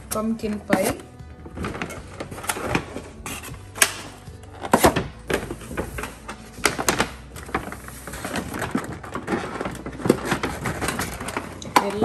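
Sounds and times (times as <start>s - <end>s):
plastic containers clicking and crackling: 0.0s - 12.0s.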